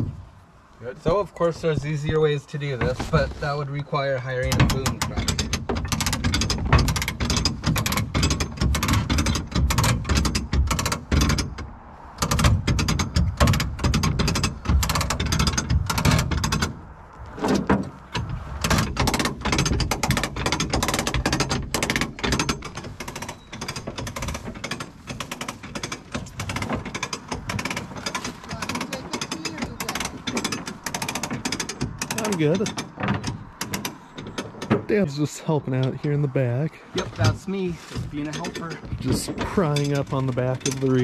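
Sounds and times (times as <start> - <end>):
ratcheting winch clicking: 4.2 - 34.9, 37.0 - 41.0.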